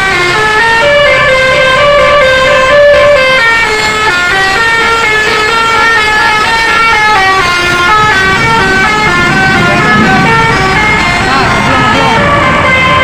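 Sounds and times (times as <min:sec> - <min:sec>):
air horn playing a melody: 0:00.0 - 0:13.0.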